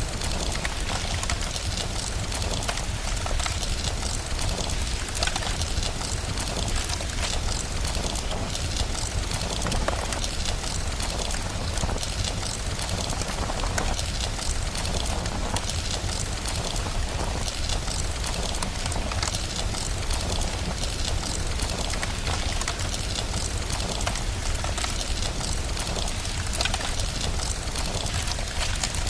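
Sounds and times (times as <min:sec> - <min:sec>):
crackling fire: 0:00.0 - 0:29.0
rain falling: 0:00.0 - 0:29.0.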